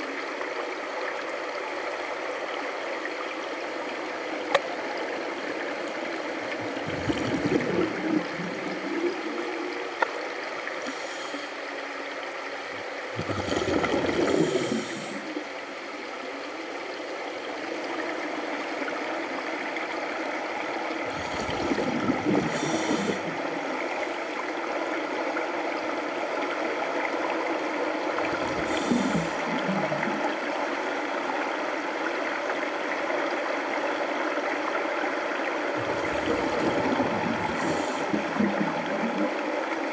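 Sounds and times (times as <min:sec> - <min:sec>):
regulator bubbles gurgling: 0:00.0 - 0:39.9
underwater water rush: 0:00.0 - 0:39.9.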